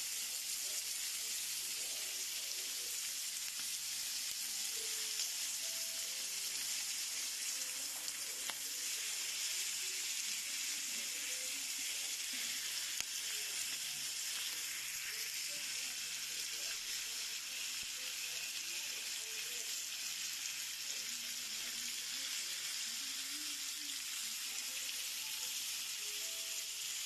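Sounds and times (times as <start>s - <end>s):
pork sizzling on griddle: 0.0s - 27.0s.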